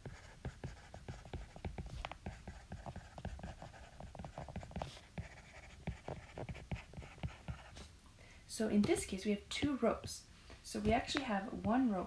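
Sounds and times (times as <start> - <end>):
stylus tapping and scratching screen: 0.0 - 7.8, 8.7 - 12.0.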